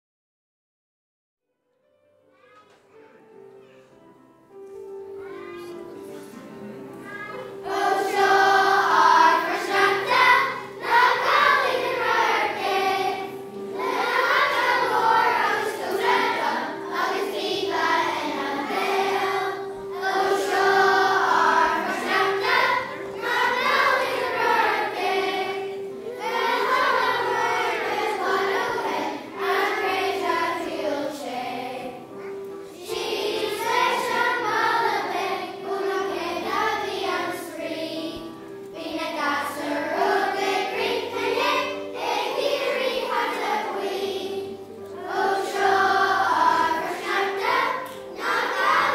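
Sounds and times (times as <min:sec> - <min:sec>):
children's choir singing: 0:03.0 - 0:48.9
low accompaniment notes: 0:03.1 - 0:48.9.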